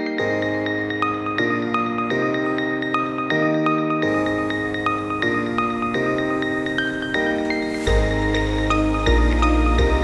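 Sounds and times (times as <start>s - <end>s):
bright melody over held chords: 0.0s - 10.0s.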